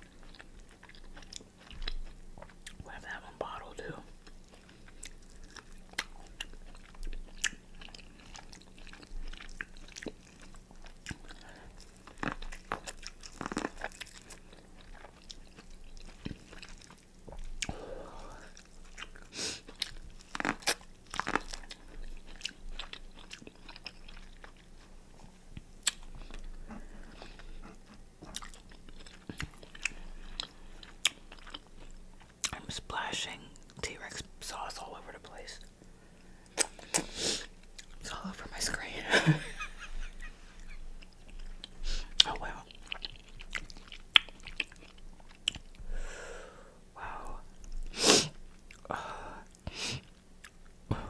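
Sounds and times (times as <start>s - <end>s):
person chewing food: 0.0s - 2.8s, 3.4s - 32.6s, 35.6s - 46.3s, 47.1s - 51.0s.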